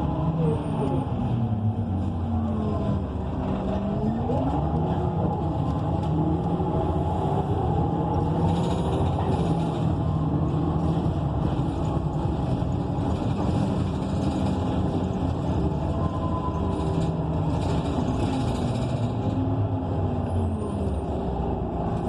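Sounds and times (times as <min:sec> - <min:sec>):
bus engine running: 0:00.0 - 0:22.0
tyre and road noise: 0:00.0 - 0:22.0.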